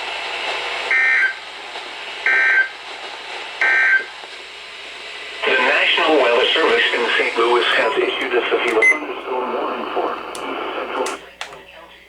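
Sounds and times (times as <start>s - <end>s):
faint radio hiss: 1.5s - 12.0s.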